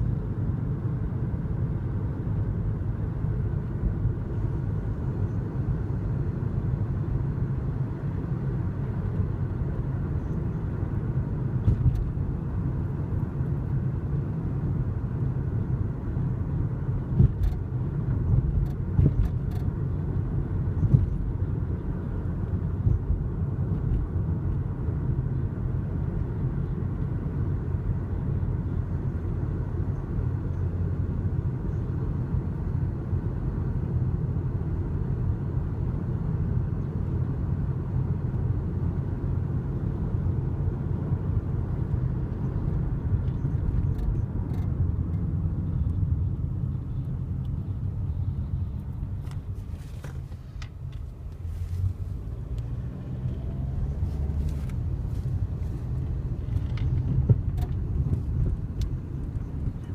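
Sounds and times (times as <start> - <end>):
car rumbling on the move: 0.0 - 59.9.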